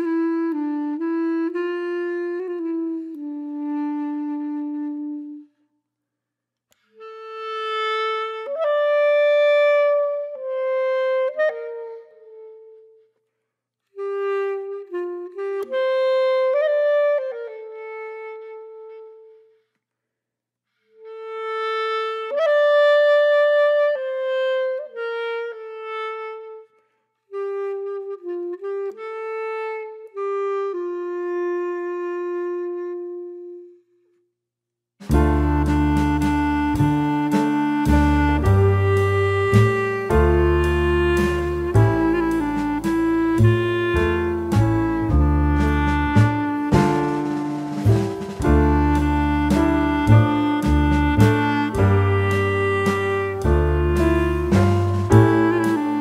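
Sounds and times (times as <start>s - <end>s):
slow solo wind instrument melody: 0.0s - 5.7s, 6.7s - 13.2s, 13.9s - 19.7s, 20.9s - 34.2s, 35.0s - 56.0s.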